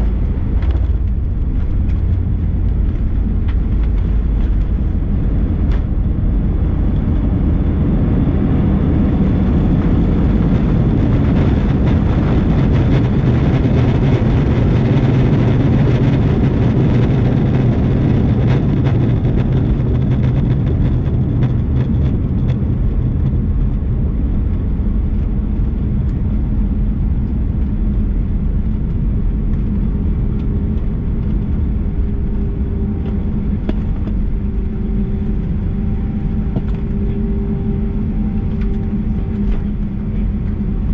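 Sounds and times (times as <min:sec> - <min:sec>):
jet cabin rumble and hiss: 0:00.0 - 0:40.9.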